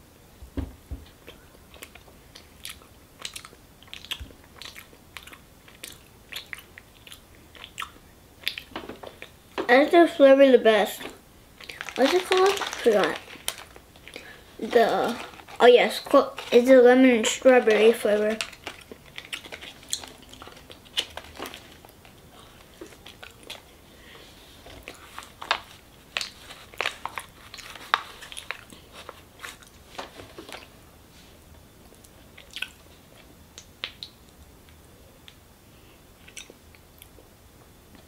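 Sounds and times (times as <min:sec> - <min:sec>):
chewing sticky sweets: 0:01.2 - 0:09.4, 0:10.9 - 0:23.8, 0:24.6 - 0:29.8, 0:31.9 - 0:35.4, 0:36.2 - 0:37.3.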